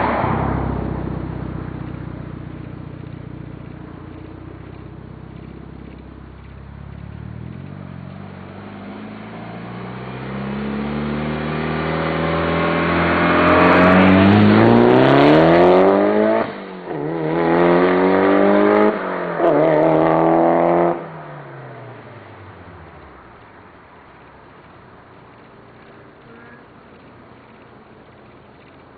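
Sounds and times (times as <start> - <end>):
car engine accelerating hard: 0.0 - 28.8.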